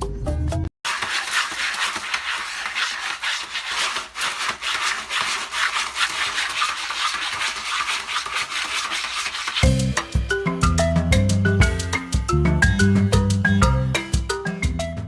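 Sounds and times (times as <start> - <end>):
rough scratching: 0.9 - 14.2.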